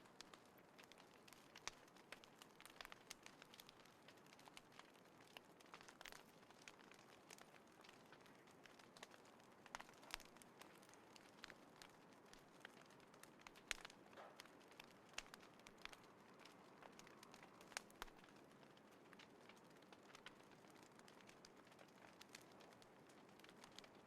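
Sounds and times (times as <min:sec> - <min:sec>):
faint fire hiss: 0:00.0 - 0:24.0
wood fire crackling and popping: 0:00.0 - 0:24.0.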